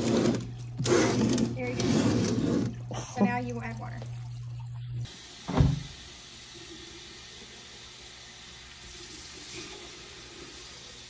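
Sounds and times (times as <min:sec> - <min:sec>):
water running into plastic jug: 0:00.0 - 0:11.0.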